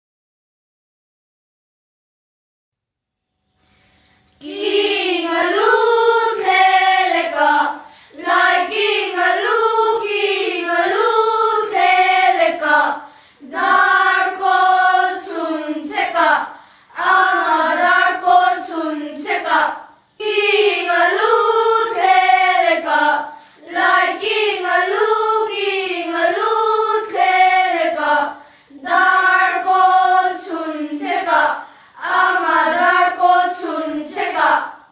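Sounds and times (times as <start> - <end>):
children singing in unison: 4.4 - 34.8.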